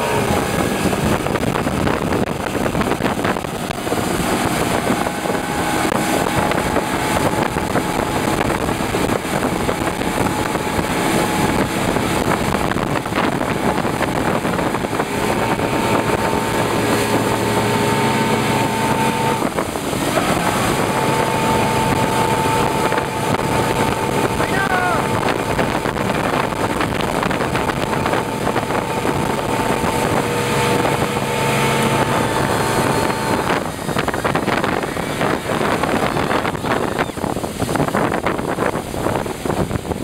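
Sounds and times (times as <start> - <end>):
churning wake water: 0.0 - 40.0
motorboat engine running: 0.0 - 40.0
rush of wind: 0.0 - 40.0.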